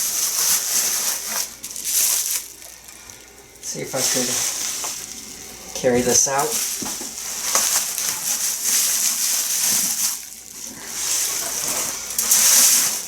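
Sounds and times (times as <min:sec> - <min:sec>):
bubble wrap and cardboard rustling: 0:00.0 - 0:13.0.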